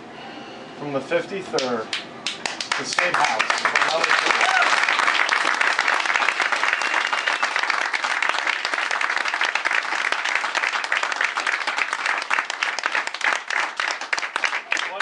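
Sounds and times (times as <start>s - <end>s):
crowd applauding: 2.2s - 15.0s.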